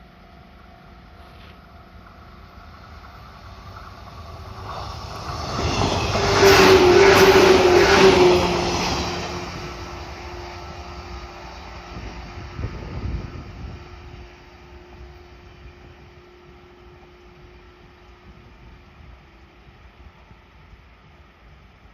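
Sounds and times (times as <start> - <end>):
train passing on tracks: 0.0 - 21.9.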